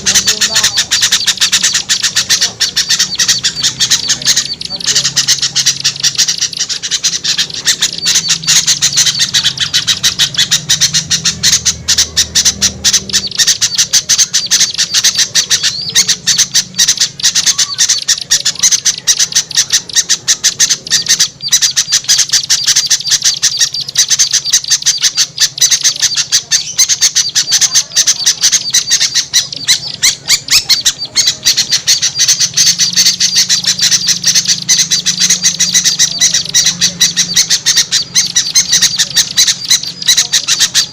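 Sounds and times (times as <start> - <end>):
songbirds chattering: 0.0 - 40.9.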